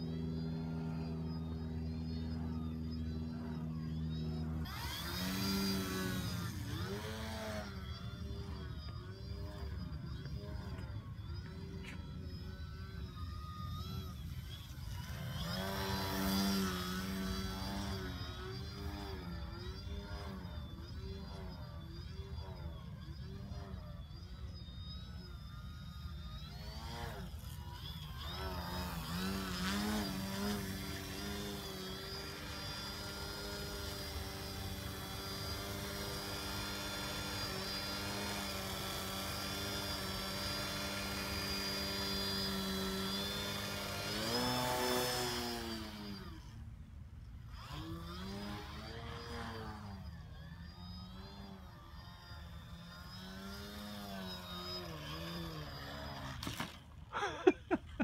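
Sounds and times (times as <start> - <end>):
rc plane electric motor buzzing: 0.0 - 58.0.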